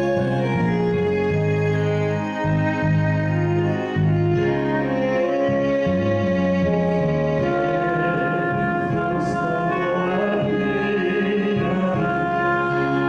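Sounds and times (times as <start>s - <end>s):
hymn on organ keyboard: 0.0s - 13.0s.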